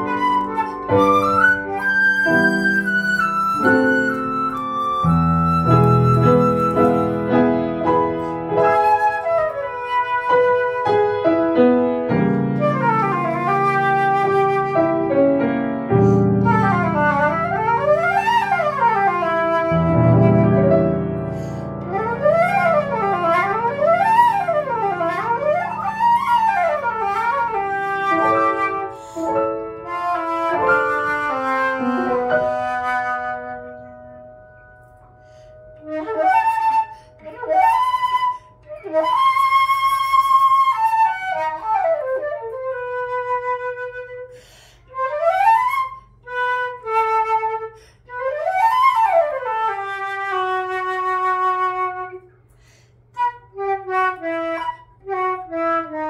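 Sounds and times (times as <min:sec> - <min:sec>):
flute and piano classical duet: 0:00.0 - 0:56.0.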